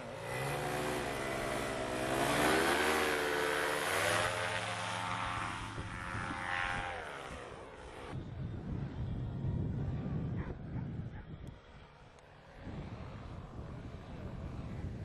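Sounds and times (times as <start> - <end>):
paramotor engine and propeller: 0.0 - 15.0.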